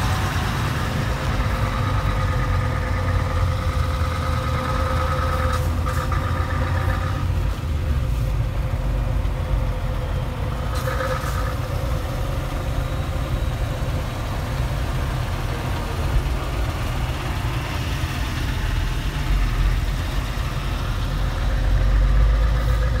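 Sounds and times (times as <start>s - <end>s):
road noise: 0.0s - 23.0s
truck diesel engine rumble: 0.0s - 23.0s.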